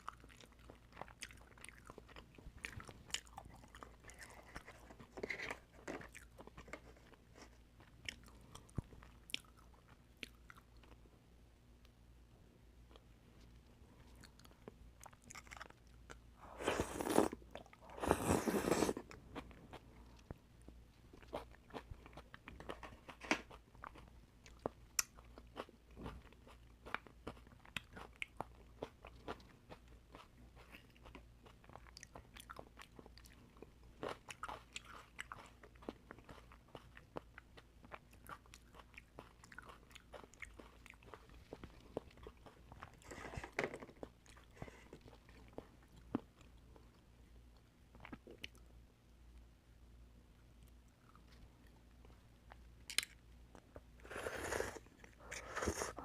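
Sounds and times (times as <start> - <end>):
chewing with wet clicks: 0.0 - 5.0, 5.9 - 11.0, 12.9 - 16.3, 19.1 - 43.1, 44.0 - 49.5, 50.5 - 53.9.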